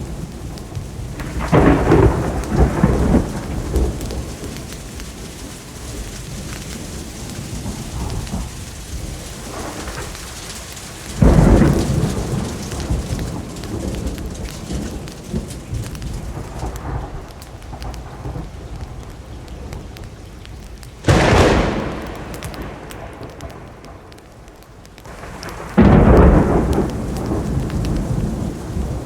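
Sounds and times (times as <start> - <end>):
steady rain: 0.0 - 29.0
thunder clap rumbling: 0.0 - 29.0.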